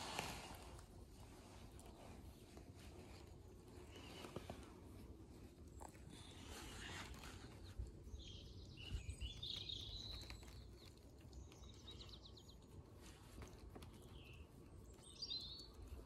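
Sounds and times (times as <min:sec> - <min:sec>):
faint birdsong chirps and trill: 0:00.0 - 0:16.0
low background rumble: 0:00.0 - 0:16.0.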